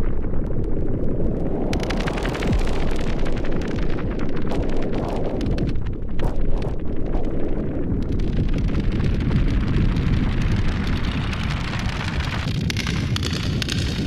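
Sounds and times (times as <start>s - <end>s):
drum synthesizer rumbling texture: 0.0s - 14.0s.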